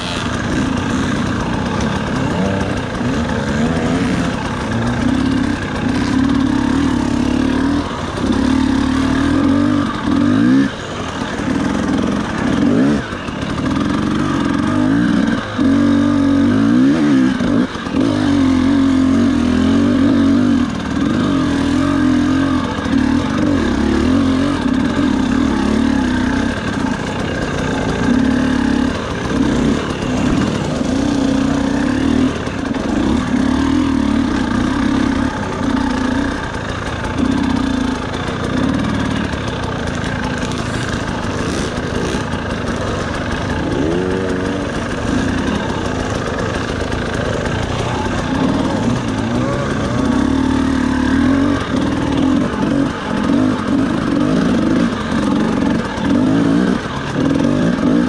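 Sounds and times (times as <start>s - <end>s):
quadcopter motors buzzing: 0.0s - 58.0s.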